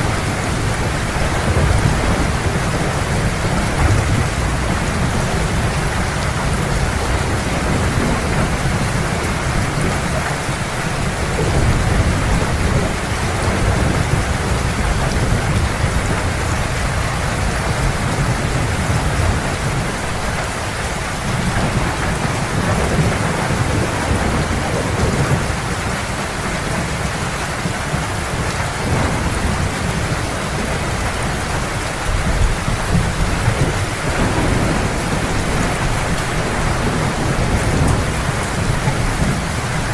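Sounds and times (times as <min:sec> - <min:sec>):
heavy rain: 0:00.0 - 0:39.9
low rumble of thunder: 0:00.0 - 0:39.9.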